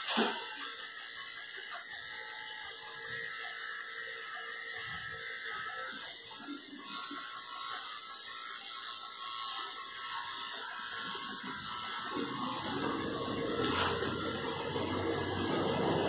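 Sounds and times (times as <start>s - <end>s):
electric clipper whining: 0.0s - 16.0s.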